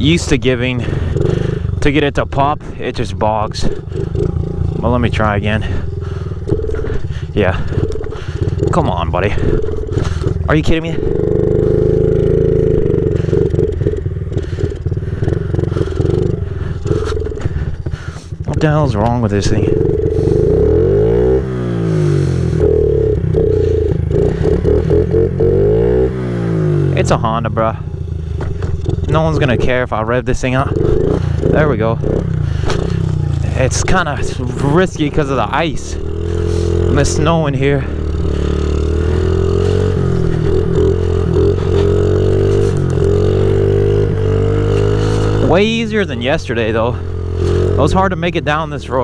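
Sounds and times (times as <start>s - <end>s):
small motorbike engine revving: 0.8s - 2.0s, 3.5s - 49.0s.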